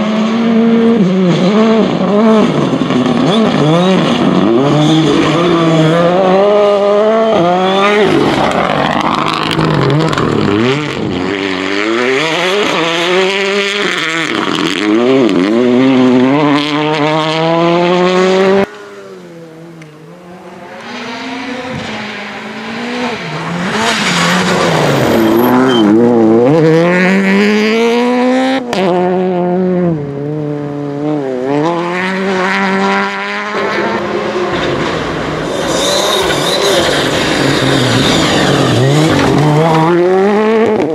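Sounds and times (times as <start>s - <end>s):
distant car: 0.0s - 40.9s
rally car engines revving: 0.0s - 40.9s.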